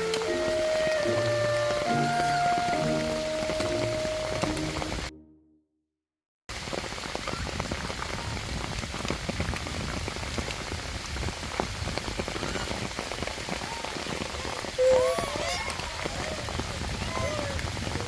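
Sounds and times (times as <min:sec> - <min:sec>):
steady rain: 0:00.0 - 0:05.1, 0:06.5 - 0:18.0.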